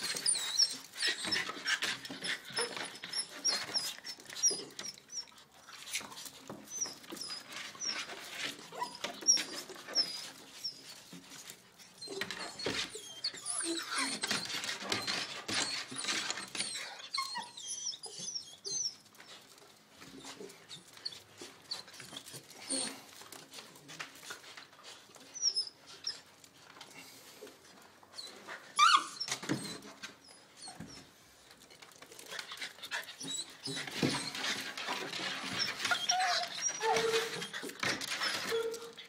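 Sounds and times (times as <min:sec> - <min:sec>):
puppies squeaking and whimpering: 0:00.0 - 0:26.5, 0:28.1 - 0:31.1, 0:31.9 - 0:39.0.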